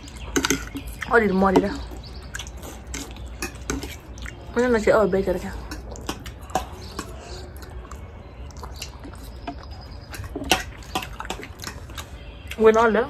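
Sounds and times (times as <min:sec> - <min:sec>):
forks clicking on plates: 0:00.0 - 0:01.1, 0:02.3 - 0:04.8, 0:05.6 - 0:12.8
people chewing: 0:00.0 - 0:13.0.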